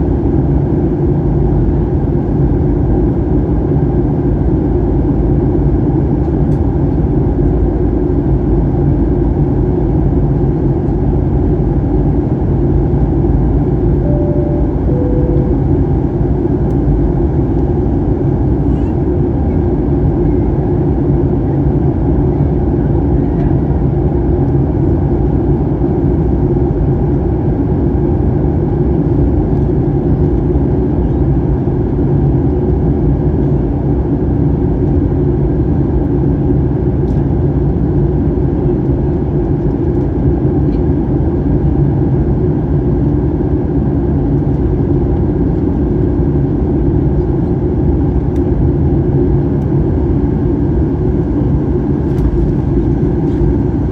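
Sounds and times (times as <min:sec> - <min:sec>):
airliner cabin engine drone: 0:00.0 - 0:53.9.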